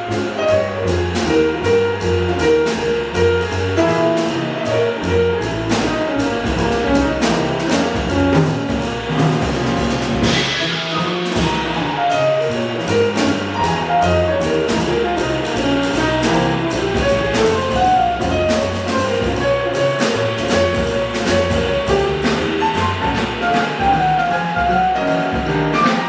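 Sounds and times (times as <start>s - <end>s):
double bass: 0.0s - 26.0s
drums: 0.0s - 26.0s
jazz melody line: 0.0s - 26.0s.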